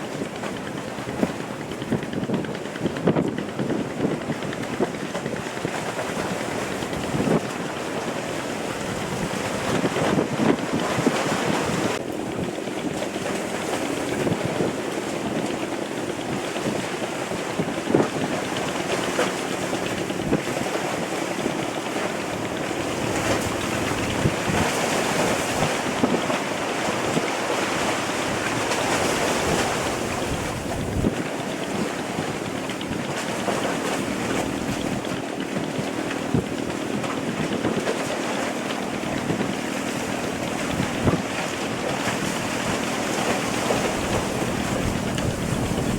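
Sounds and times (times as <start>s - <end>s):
engine hum: 0.0s - 45.9s
water splashing against boat hull: 0.0s - 45.9s
wind buffeting microphone: 0.0s - 45.9s.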